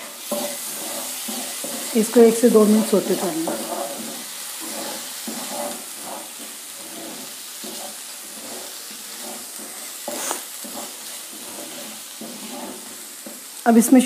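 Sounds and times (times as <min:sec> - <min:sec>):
wooden spatula scraping pan: 0:00.0 - 0:13.6
paste sizzling in oil: 0:00.0 - 0:14.0.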